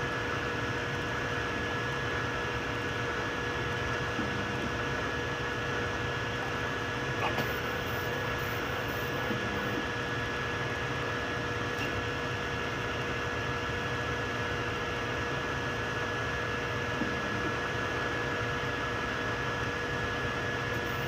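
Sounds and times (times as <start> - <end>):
constant whining tones: 0.0 - 21.0
printer fans whirring: 0.0 - 21.0.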